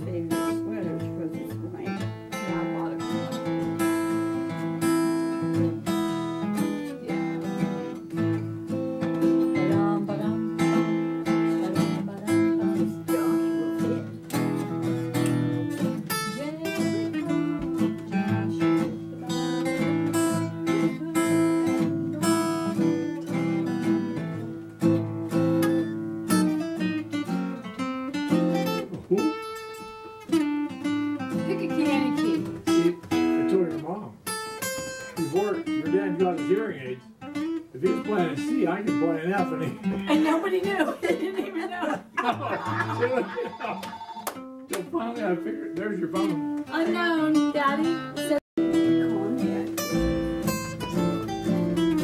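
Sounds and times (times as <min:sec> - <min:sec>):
acoustic guitars playing country tune: 0:00.0 - 0:52.0.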